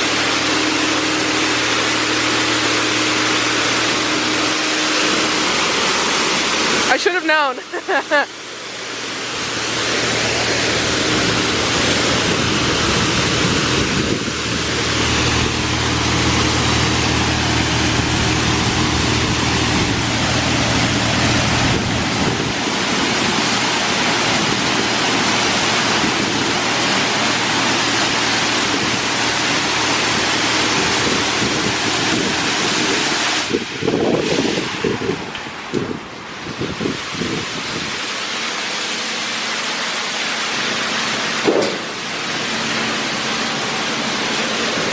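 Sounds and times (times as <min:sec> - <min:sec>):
car wash spraying water: 0:00.0 - 0:44.9
low machine hum: 0:00.0 - 0:44.9.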